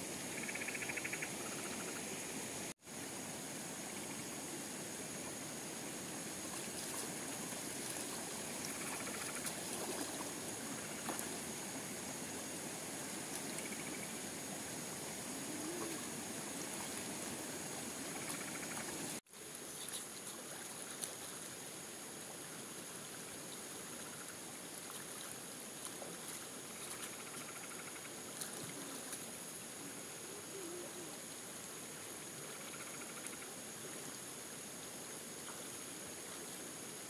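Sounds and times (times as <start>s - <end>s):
high insect drone: 0.0s - 19.2s, 26.3s - 37.0s
insect chirping trills: 0.0s - 37.0s
stream running over rocks: 0.0s - 37.0s.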